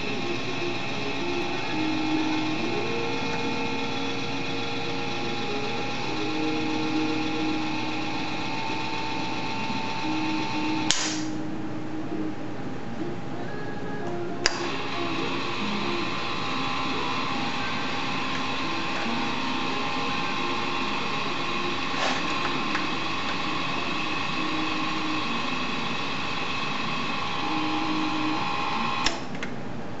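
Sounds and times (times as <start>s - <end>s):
electric motor whining: 0.0s - 11.5s, 14.4s - 29.3s.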